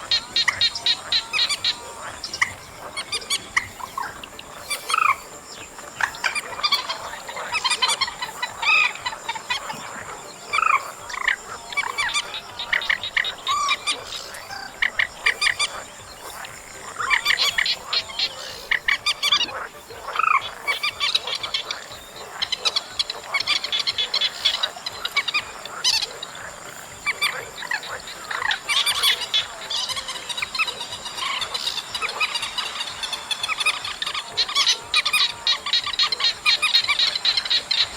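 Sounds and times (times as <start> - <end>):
marsh bird croaking calls: 0.0 - 37.9.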